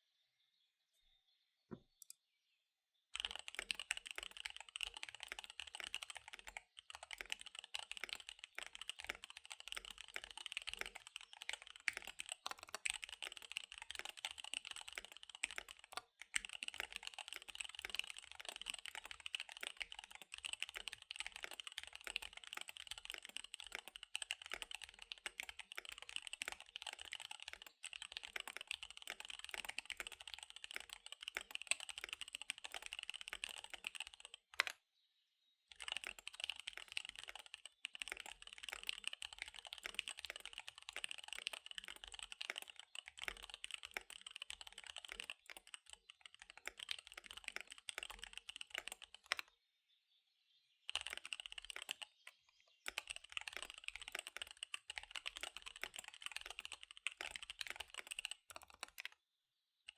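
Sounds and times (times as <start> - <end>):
fast typing on mechanical keyboard: 3.2 - 34.7, 35.7 - 49.5, 50.9 - 59.2.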